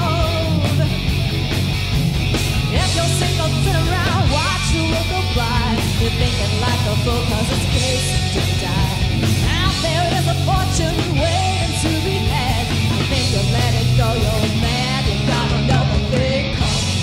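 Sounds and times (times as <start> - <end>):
woman singing lead: 0.0 - 1.0, 2.7 - 17.0
bass guitar: 0.0 - 17.0
drums: 0.0 - 17.0
electric guitars: 0.0 - 17.0.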